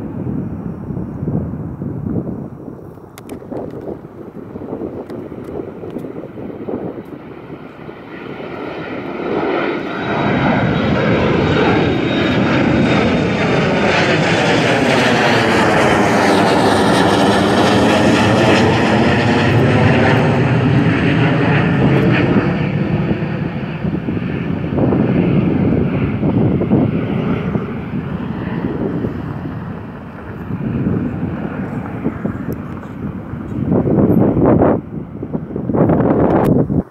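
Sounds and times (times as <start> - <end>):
jet airliner taking off: 0.0 - 36.9.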